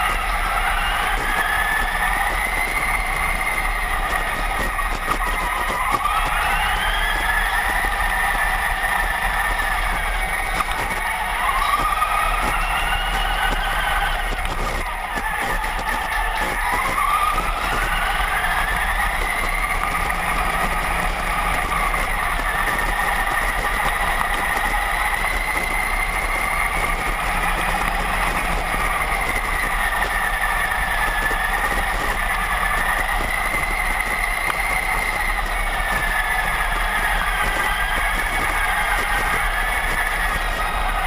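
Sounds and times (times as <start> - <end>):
toy truck electric motor whine: 0.0 - 41.0.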